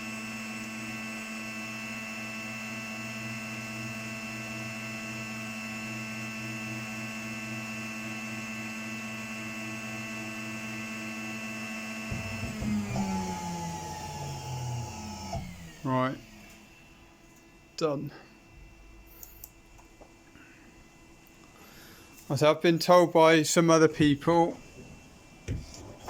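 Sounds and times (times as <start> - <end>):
cnc router humming: 0.0 - 26.0.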